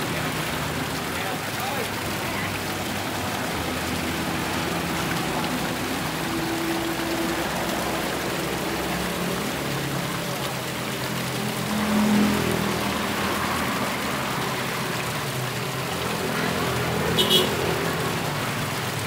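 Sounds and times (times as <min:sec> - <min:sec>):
waterfall splashing into pond: 0:00.0 - 0:19.0.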